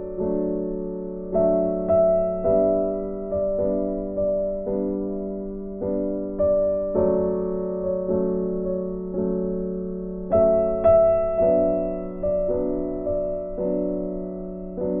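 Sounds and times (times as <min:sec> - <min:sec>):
soft keyboard chords: 0:00.0 - 0:15.0.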